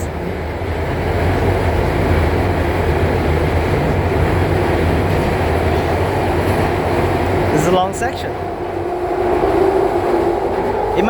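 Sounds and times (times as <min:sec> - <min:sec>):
train rumble and rush: 0:00.0 - 0:11.0.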